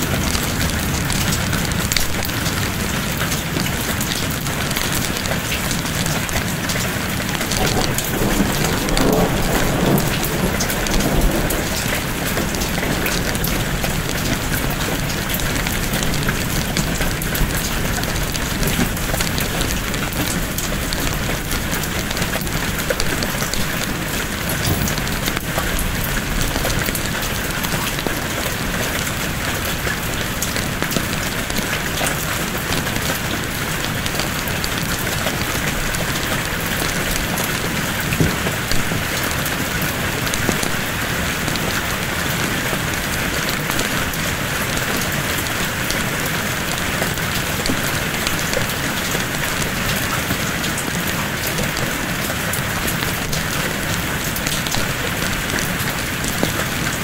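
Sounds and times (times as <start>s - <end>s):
thunder rumbling: 0.0s - 50.9s
heavy rain pattering: 0.0s - 57.0s.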